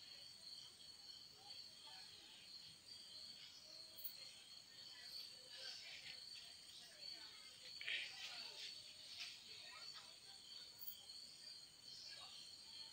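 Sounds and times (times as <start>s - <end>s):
faint distant voices: 0.0s - 12.9s.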